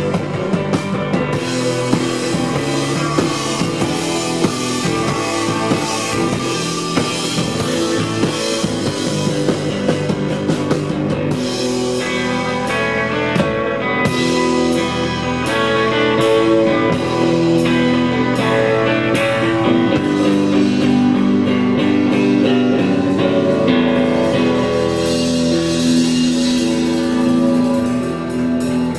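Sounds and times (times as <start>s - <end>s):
bass guitar: 0.0s - 28.9s
drum beat with cymbals: 0.0s - 28.9s
guitar chords ringing: 0.0s - 28.9s.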